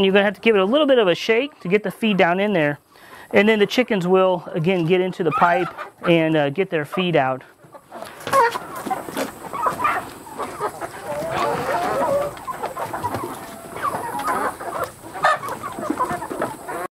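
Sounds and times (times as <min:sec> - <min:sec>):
hens clucking: 0:00.0 - 0:16.9.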